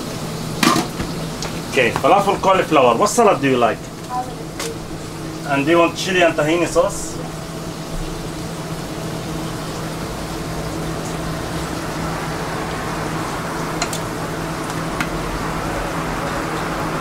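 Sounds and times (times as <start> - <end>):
steady hiss with low hum: 0.0 - 17.0.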